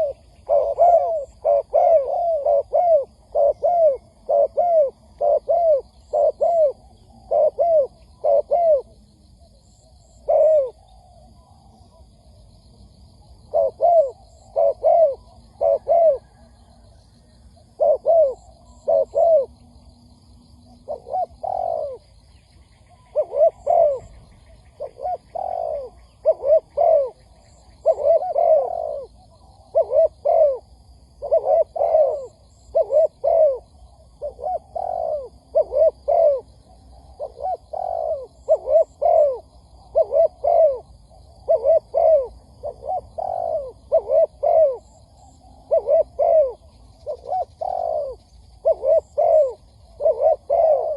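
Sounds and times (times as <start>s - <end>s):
dove cooing: 0.0s - 12.1s, 12.8s - 50.9s.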